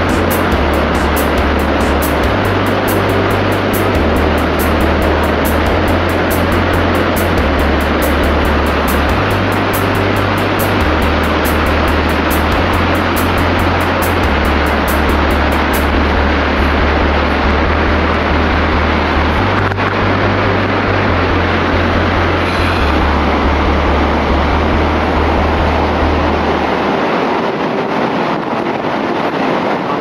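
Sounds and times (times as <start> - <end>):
waterfall roar: 0.0 - 30.0
wind rumbling on microphone: 0.0 - 30.0.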